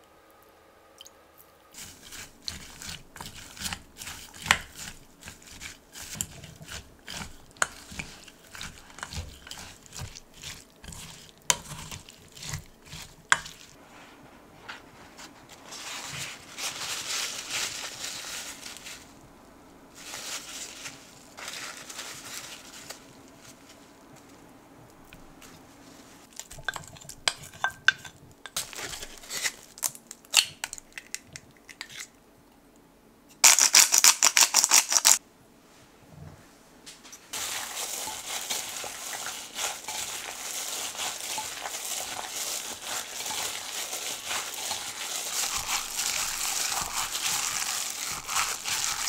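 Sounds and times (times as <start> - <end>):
kitchen paper crinkling: 1.7 - 19.3, 19.9 - 27.0, 28.6 - 30.9, 33.4 - 35.2, 37.3 - 49.0
spatula rustling and scraping: 1.7 - 19.3, 19.9 - 31.0, 37.0 - 49.0.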